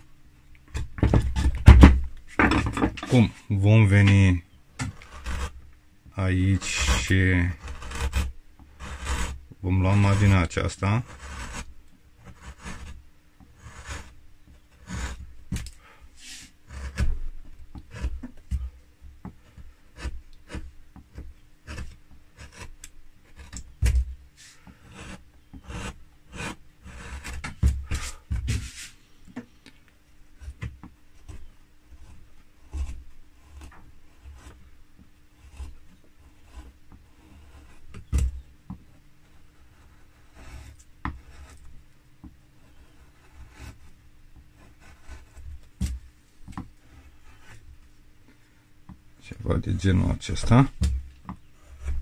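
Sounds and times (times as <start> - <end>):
chisel scraping wood: 0.7 - 5.6, 6.4 - 29.6, 30.4 - 34.7, 35.4 - 41.7, 42.5 - 47.7, 49.2 - 52.0.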